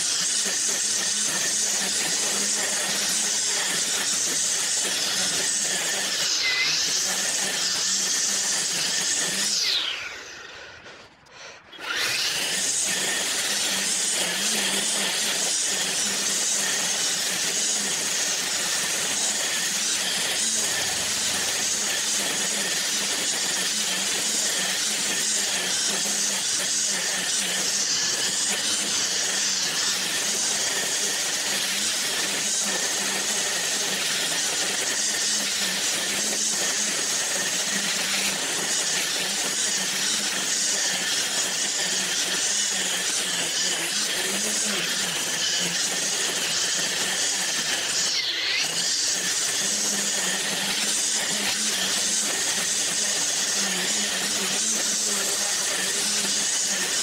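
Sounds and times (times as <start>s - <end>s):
string trimmer cutting grass: 0.0s - 57.0s.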